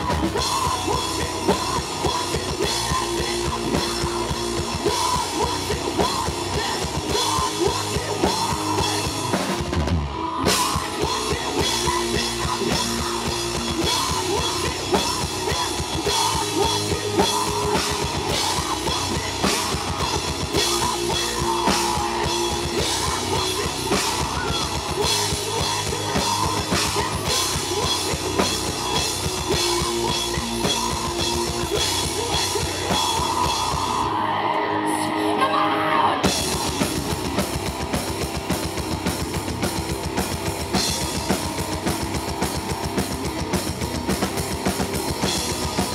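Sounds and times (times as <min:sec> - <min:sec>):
heavy metal band playing: 0:00.0 - 0:45.9.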